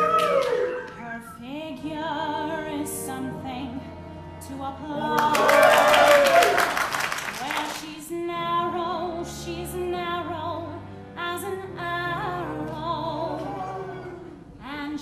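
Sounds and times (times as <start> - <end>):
woman singing with vibrato: 0.0 - 6.1, 7.4 - 15.0
soft musical accompaniment: 0.0 - 15.0.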